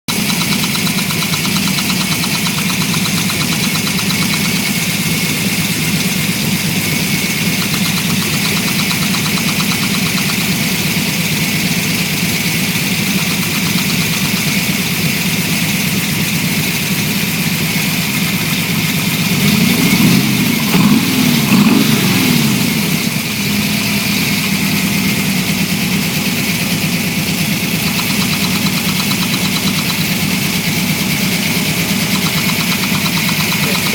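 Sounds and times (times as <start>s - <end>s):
engine idling with rapid knocking: 0.0s - 33.9s
engine revving: 0.1s - 33.9s.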